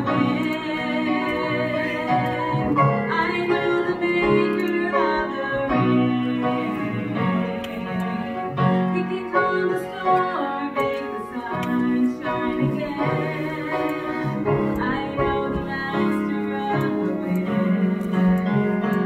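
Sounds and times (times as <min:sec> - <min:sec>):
woman singing slow song: 0:00.0 - 0:18.4
grand piano: 0:00.0 - 0:19.0.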